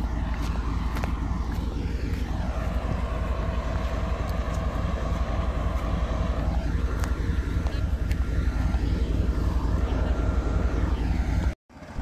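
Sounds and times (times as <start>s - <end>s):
locomotive engine rumbling: 0.0s - 12.0s
steady whine: 0.0s - 12.0s.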